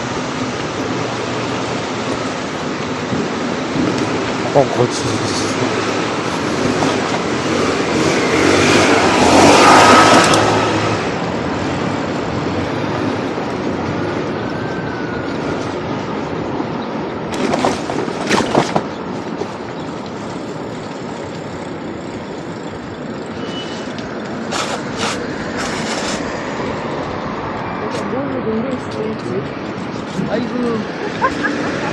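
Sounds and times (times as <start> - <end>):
city traffic: 0.0 - 31.9
vehicle passing: 0.0 - 31.9.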